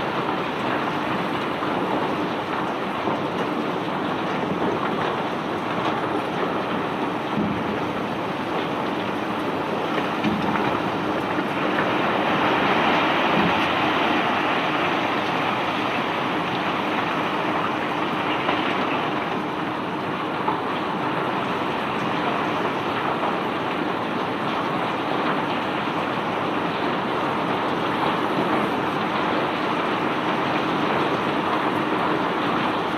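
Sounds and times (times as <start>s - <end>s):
faint machinery hum: 0.0s - 32.9s.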